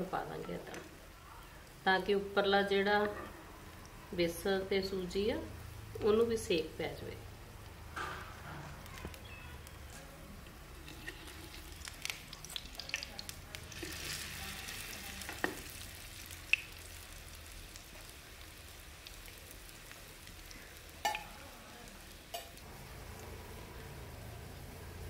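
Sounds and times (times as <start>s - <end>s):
bread frying in hot oil: 0.0s - 25.0s.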